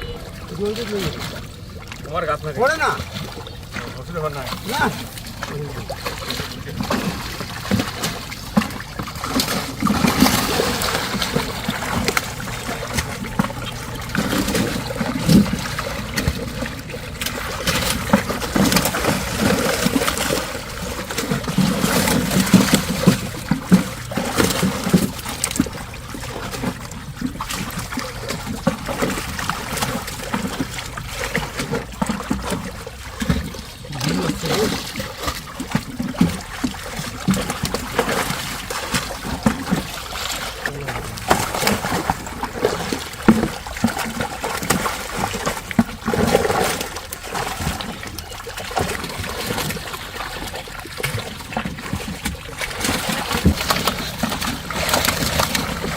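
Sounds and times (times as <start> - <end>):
water splashing and trickling: 0.0 - 55.9.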